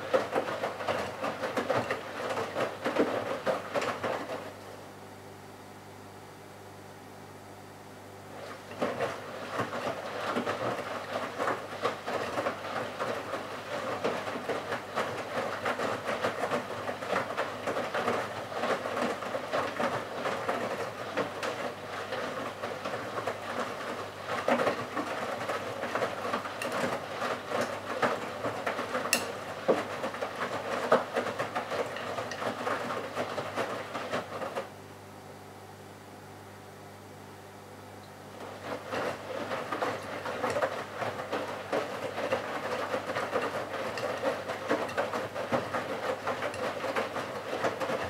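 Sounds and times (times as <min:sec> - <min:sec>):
washing machine tumbling laundry: 0:00.0 - 0:48.0.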